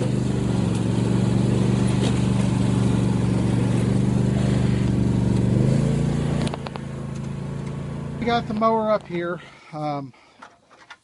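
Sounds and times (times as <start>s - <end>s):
engine running steadily: 0.0s - 10.6s.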